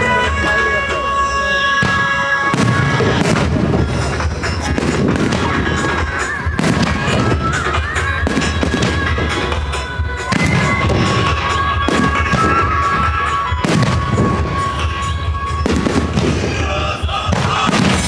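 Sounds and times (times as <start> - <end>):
fireworks bursting: 0.0 - 18.0
music: 0.0 - 18.0.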